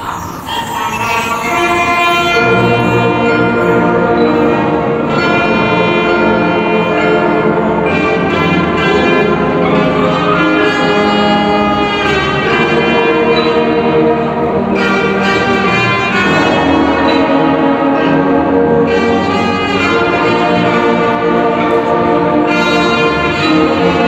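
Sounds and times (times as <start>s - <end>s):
brass section playing sustained chords: 0.0s - 24.0s.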